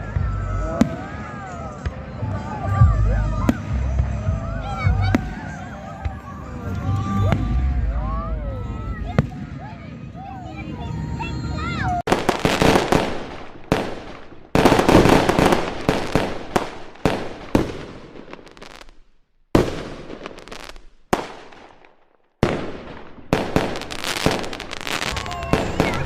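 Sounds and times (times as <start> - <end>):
fireworks bangs with crackle: 0.0 - 10.2, 12.0 - 26.0.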